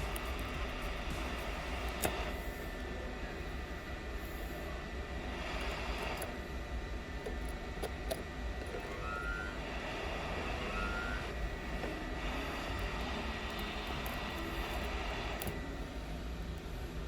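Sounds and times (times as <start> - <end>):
small electric fan whirring: 0.0 - 17.0
thin steady whine: 0.0 - 17.0.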